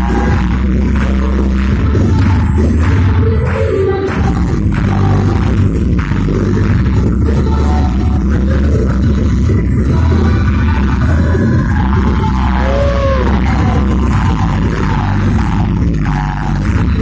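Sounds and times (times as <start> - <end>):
loud bass-heavy dance music: 0.0 - 17.0.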